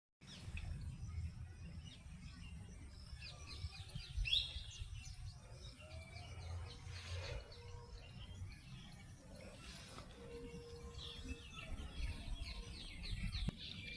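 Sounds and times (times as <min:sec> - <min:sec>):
birds chirping: 0:00.2 - 0:13.9.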